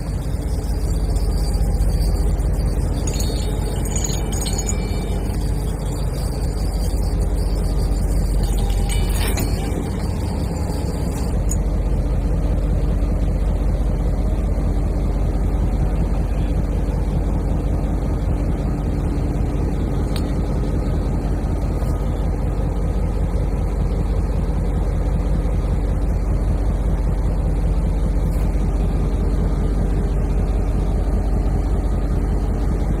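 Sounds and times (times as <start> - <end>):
train locomotive engine hum: 0.0 - 33.0.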